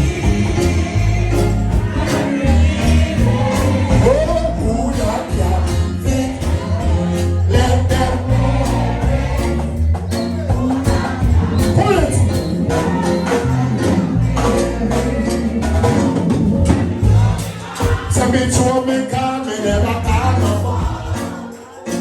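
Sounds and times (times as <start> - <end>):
gospel music with bass line: 0.0 - 22.0
person singing: 0.0 - 22.0.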